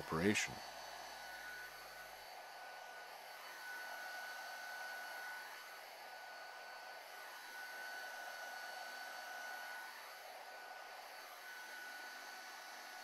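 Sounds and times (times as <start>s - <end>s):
heat gun blowing: 0.0s - 13.0s.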